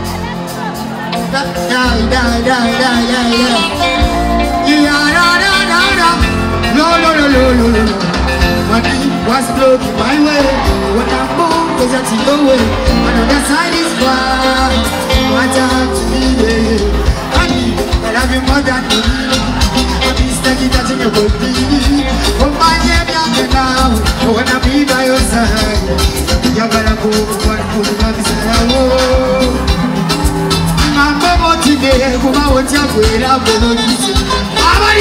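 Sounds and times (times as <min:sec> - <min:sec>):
live band playing pop: 0:00.0 - 0:35.0
man singing into microphone: 0:00.3 - 0:35.0.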